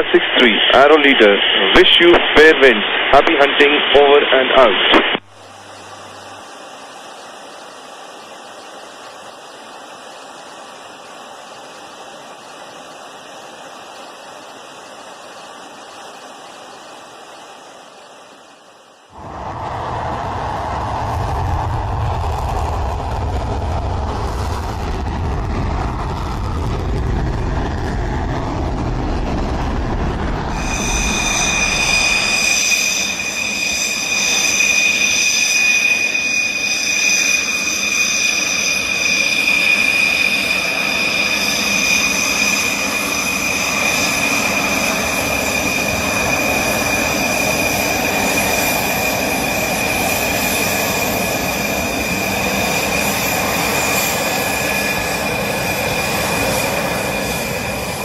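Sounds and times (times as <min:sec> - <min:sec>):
jet engine roar: 0:00.0 - 0:14.6, 0:19.1 - 0:58.0
high-pitched jet engine whine: 0:00.0 - 0:58.0.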